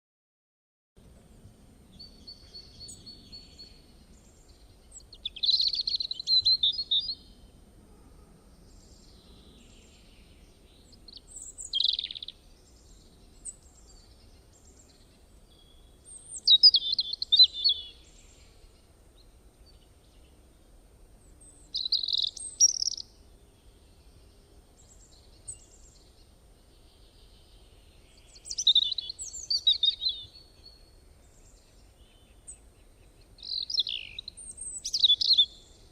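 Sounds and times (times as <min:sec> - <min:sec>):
faint background noise: 0:01.0 - 0:35.9
bird chirping: 0:01.3 - 0:07.6, 0:08.5 - 0:35.9.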